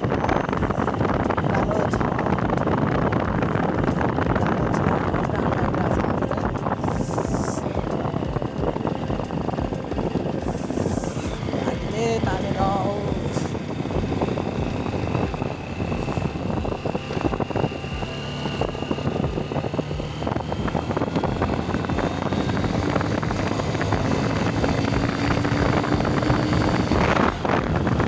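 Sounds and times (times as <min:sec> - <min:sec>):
motorcycle engine running: 0:00.0 - 0:28.0
road noise rushing: 0:00.0 - 0:28.0.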